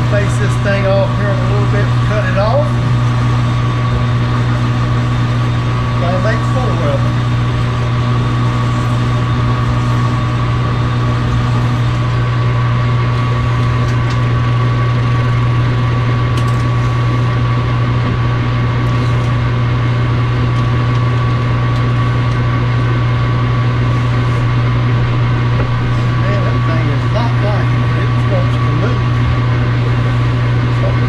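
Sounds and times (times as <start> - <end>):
high steady whine: 0.0 - 31.0
metal lathe motor hum: 0.0 - 31.0.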